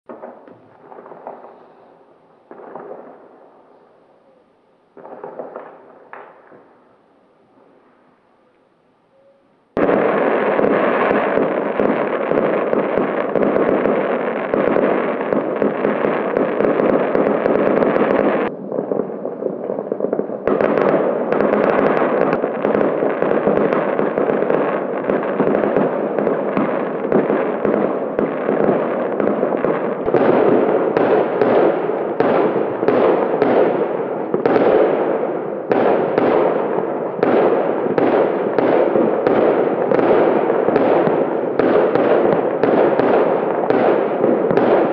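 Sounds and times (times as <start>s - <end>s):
fireworks bangs and crackling: 0.1s - 7.9s, 9.7s - 44.9s.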